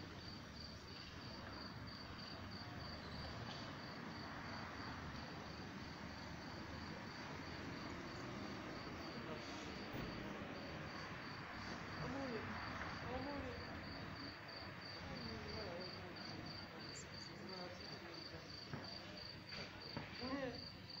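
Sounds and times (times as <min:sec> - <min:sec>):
cricket chirping: 0:00.0 - 0:21.0
faint city background noise: 0:00.0 - 0:21.0.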